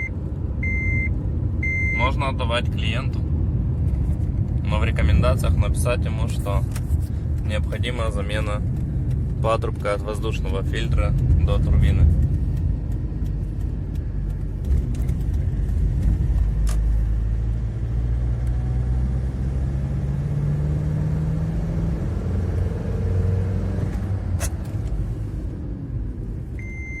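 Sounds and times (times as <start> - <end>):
diesel car engine accelerating: 0.0 - 27.0.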